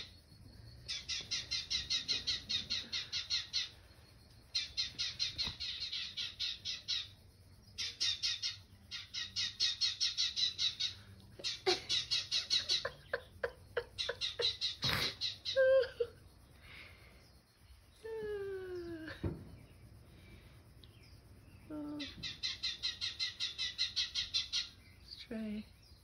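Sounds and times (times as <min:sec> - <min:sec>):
small birds chirping through tv speaker: 0:00.0 - 0:26.0.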